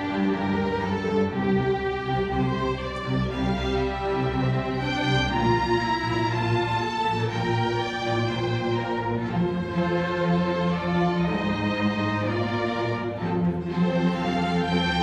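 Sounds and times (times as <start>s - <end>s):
string orchestra playing slow chords: 0.0s - 15.0s.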